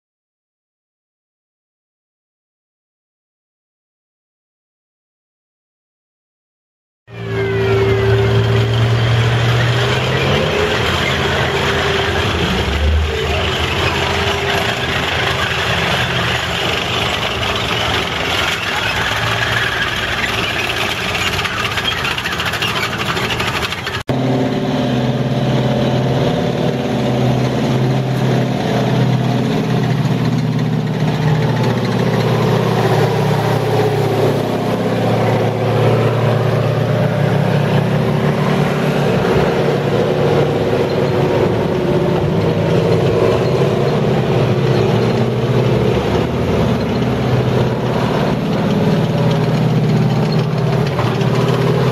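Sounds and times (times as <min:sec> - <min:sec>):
armoured cars engine approaching: 0:07.1 - 0:51.9
tracked vehicle driving by: 0:07.1 - 0:51.9.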